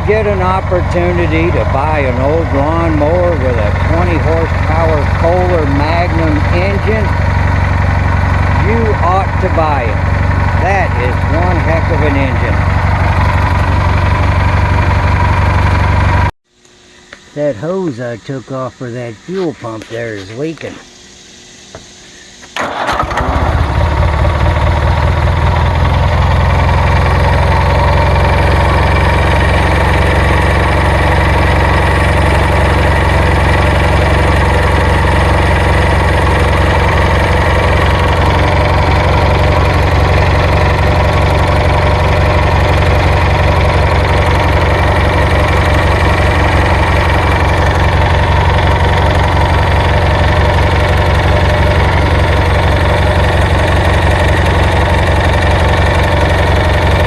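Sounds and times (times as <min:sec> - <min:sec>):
lawnmower engine running: 0:00.0 - 0:16.3, 0:22.4 - 0:57.0.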